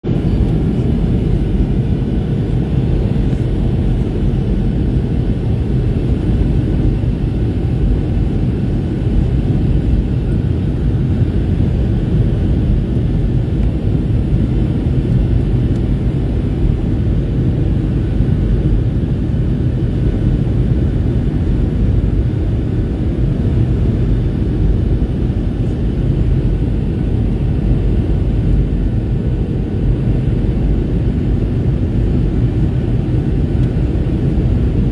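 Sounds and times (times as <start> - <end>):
engines and rushing air rumble: 0.0 - 34.9.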